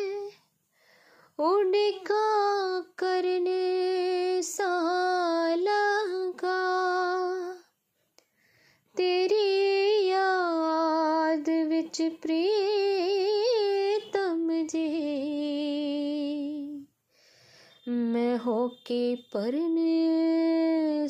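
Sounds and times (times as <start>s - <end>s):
person singing unaccompanied: 0.0s - 0.4s, 1.4s - 7.7s, 9.0s - 16.9s, 17.8s - 21.0s.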